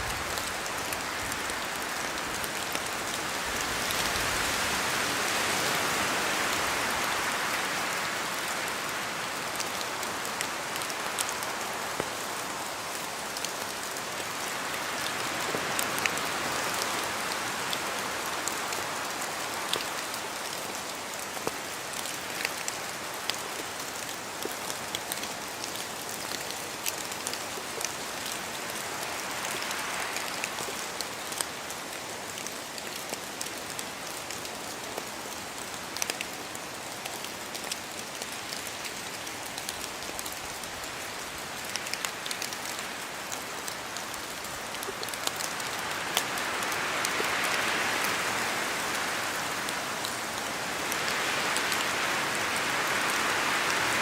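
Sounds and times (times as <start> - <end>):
steady rain patter: 0.0 - 54.0
wind through trees: 0.0 - 54.0.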